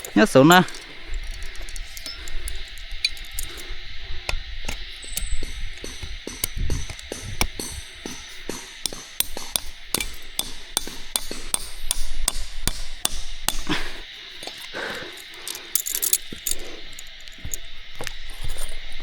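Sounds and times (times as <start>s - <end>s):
high-pitched insect-like drone: 0.0s - 19.0s.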